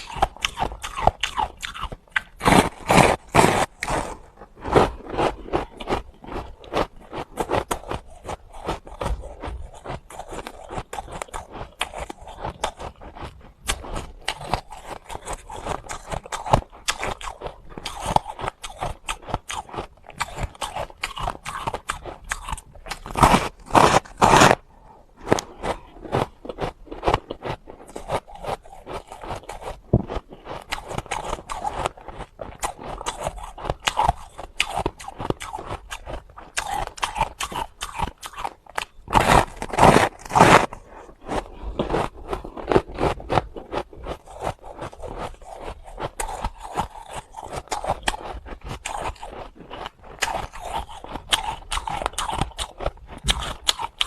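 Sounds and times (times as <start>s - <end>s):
chewing and crunching ice: 0.0s - 54.0s.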